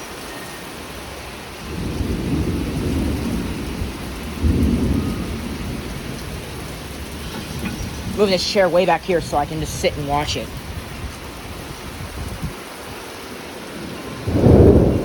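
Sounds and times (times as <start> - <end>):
heavy rain: 0.0 - 15.0
thunder rumbling: 0.7 - 15.0.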